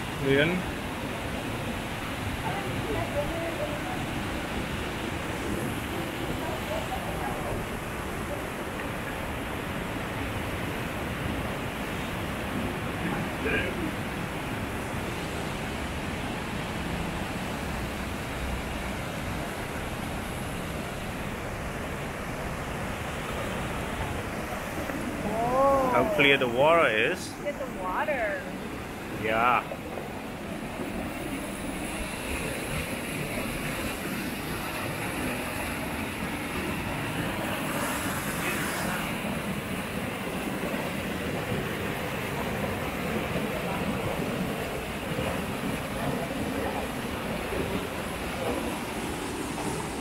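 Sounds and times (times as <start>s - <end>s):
mountain stream rushing: 0.0s - 50.0s.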